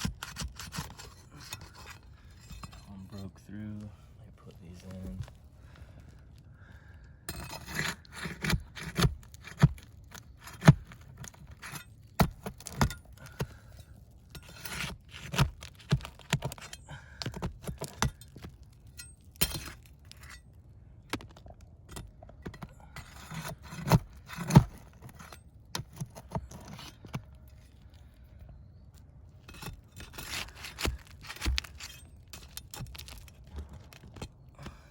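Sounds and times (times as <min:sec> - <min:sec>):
hand tools prying shingles: 0:00.0 - 0:03.3, 0:07.3 - 0:20.5, 0:21.1 - 0:27.6, 0:29.4 - 0:34.9.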